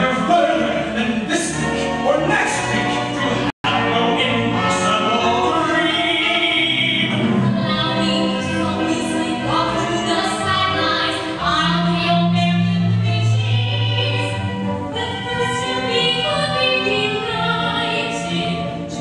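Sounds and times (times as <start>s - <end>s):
singers with orchestra waltz: 0.0s - 19.0s.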